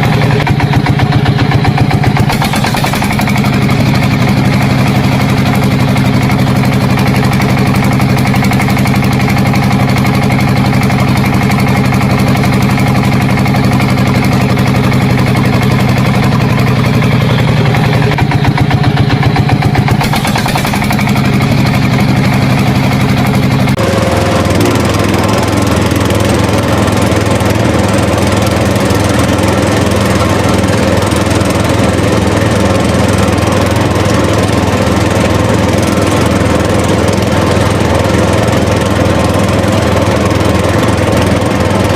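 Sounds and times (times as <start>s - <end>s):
engine running steadily: 0.0s - 41.9s.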